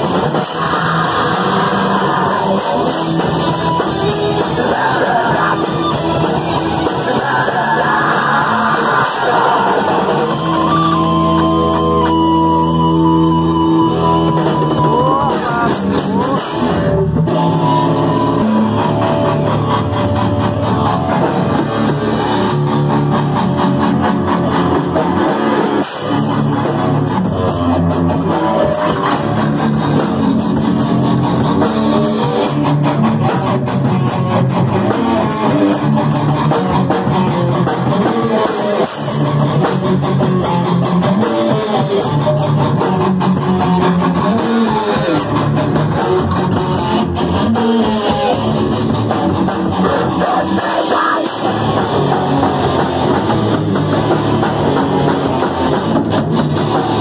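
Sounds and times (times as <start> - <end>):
bass guitar: 0.0 - 57.0
drum kit: 0.0 - 57.0
electric guitar: 0.0 - 57.0.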